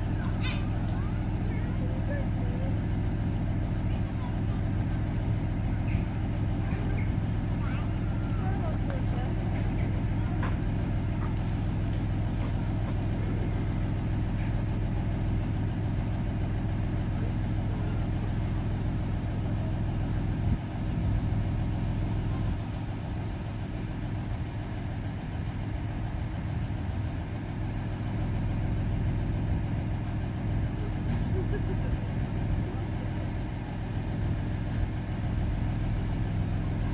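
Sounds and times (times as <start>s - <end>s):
locomotive engine idling: 0.0s - 36.9s.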